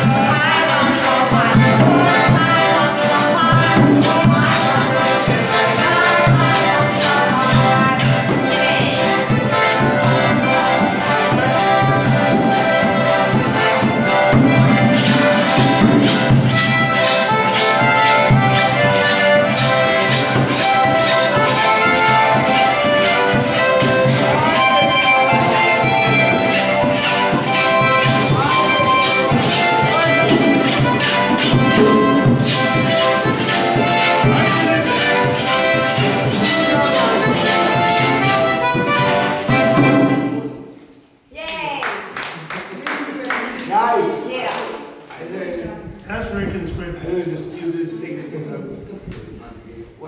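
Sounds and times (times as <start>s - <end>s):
button accordions playing: 0.0s - 40.8s.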